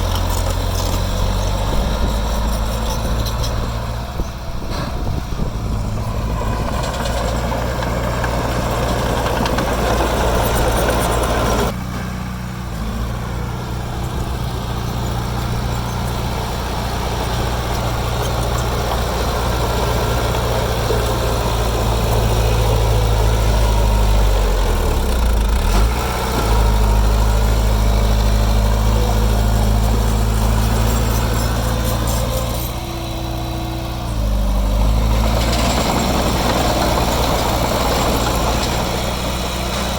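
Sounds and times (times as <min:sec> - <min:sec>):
earthmoving machinery diesel engines: 0:00.0 - 0:39.9.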